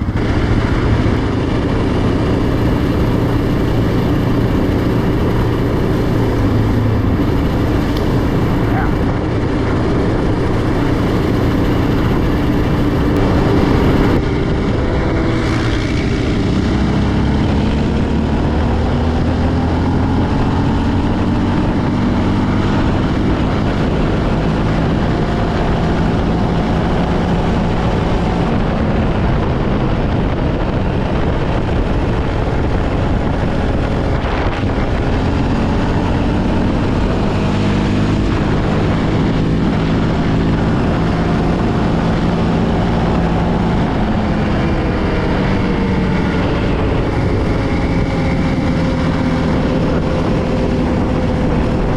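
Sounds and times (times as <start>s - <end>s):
quad bike engine revving: 0.0s - 51.9s
wind noise on microphone: 0.0s - 51.9s.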